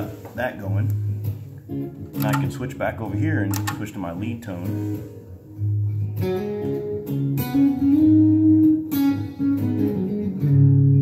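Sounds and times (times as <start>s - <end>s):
looped electric guitar part: 0.0s - 11.0s
lead guitar held notes: 0.7s - 11.0s.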